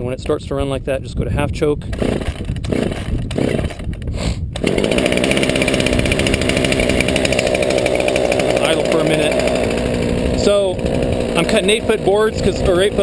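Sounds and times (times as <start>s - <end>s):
chainsaw engine idling: 1.9s - 4.0s, 4.6s - 13.0s.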